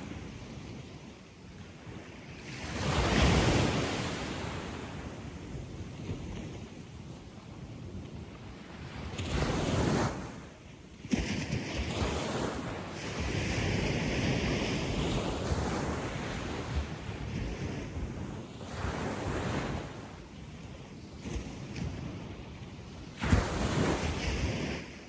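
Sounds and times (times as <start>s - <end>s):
sea waves washing up a beach: 0.0s - 25.0s.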